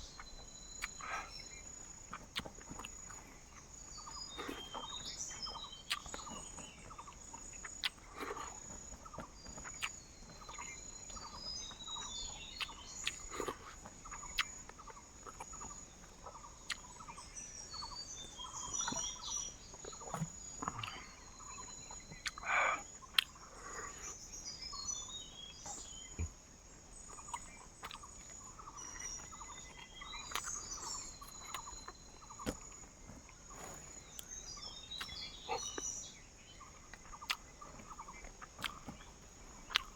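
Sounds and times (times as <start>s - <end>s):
bird chirps and calls: 0.0s - 26.3s, 27.1s - 39.9s.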